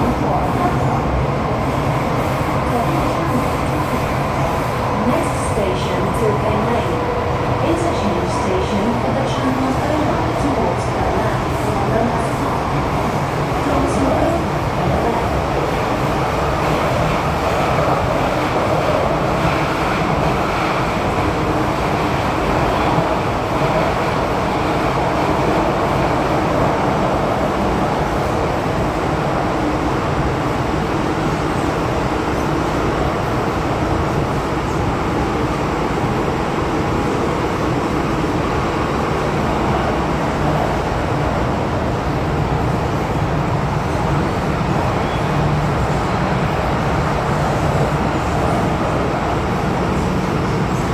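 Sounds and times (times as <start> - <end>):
train wheels rolling on rail: 0.0 - 50.9.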